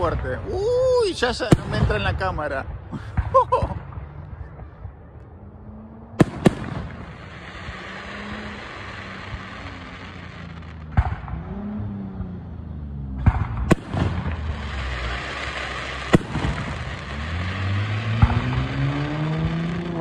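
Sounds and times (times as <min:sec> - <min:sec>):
fireworks bursting: 0:00.0 - 0:05.2, 0:06.2 - 0:20.0.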